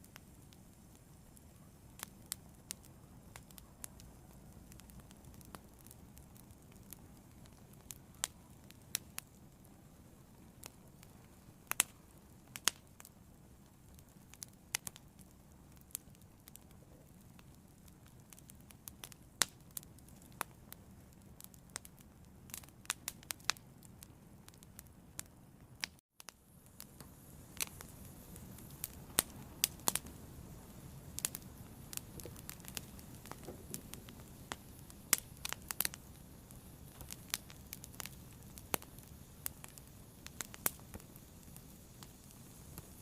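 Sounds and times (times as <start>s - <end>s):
fire crackling and popping: 0.0s - 43.0s
low rumble of flames: 0.0s - 43.0s.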